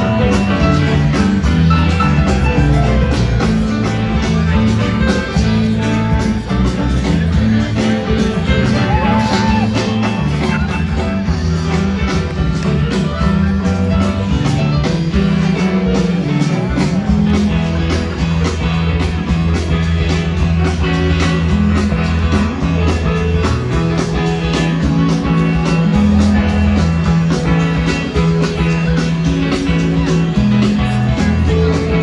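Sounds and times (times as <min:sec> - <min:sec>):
bass guitar: 0:00.0 - 0:32.0
electric guitar: 0:00.0 - 0:32.0
keyboards: 0:00.0 - 0:32.0.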